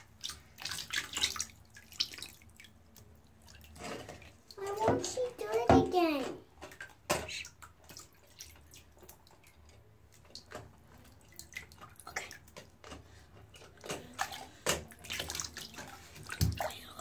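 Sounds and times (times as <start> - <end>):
bathwater splashing and dripping: 0.0 - 17.0.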